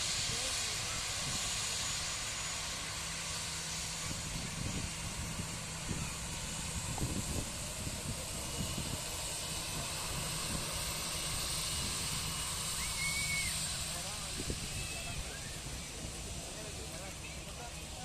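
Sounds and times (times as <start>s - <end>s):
distant airliner engines: 0.0s - 18.0s.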